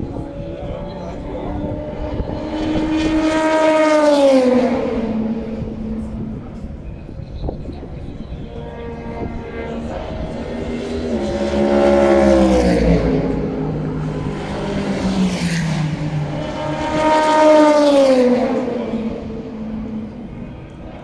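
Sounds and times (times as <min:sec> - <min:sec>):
race cars passing by: 0:00.0 - 0:21.0.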